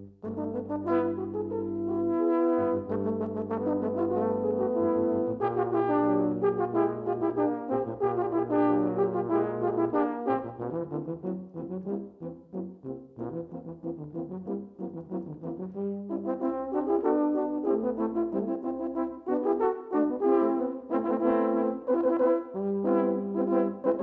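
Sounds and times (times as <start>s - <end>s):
euphonium quartet playing: 0.2s - 24.0s.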